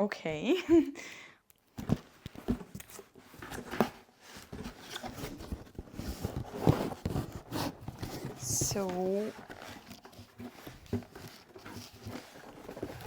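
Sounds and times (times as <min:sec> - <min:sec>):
packaging rustling and crinkling: 0:01.7 - 0:13.0.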